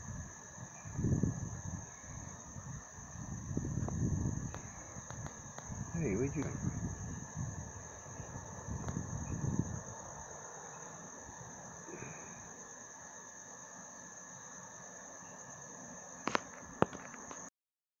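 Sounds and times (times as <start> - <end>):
crickets chirping: 0.0 - 17.5.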